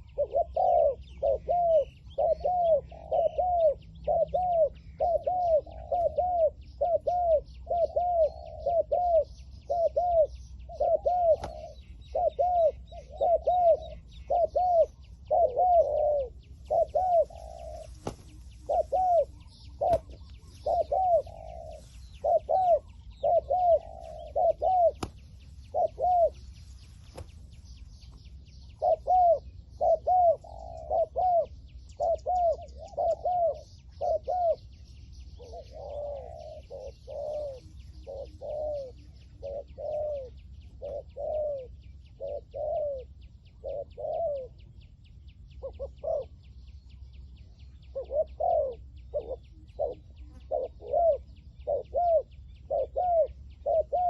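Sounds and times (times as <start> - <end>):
doves cooing: 0.0 - 44.7, 45.5 - 46.6, 47.6 - 54.0
small birds chirping: 0.0 - 54.0.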